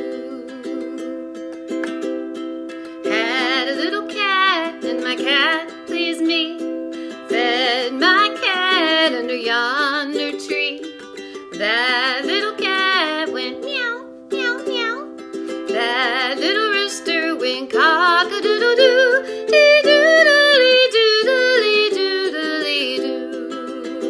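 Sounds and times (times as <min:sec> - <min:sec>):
woman singing: 0:00.0 - 0:02.0, 0:02.8 - 0:24.0
ukulele strumming: 0:00.0 - 0:24.0.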